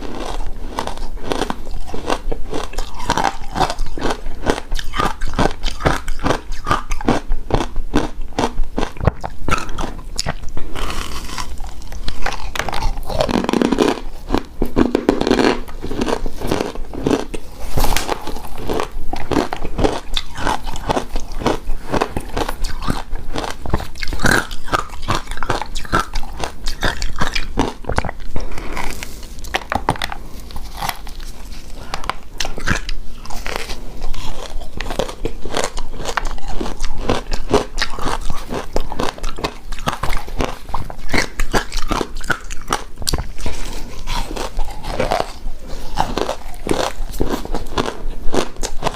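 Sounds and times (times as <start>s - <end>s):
person crunching shaved ice: 0.0s - 48.9s.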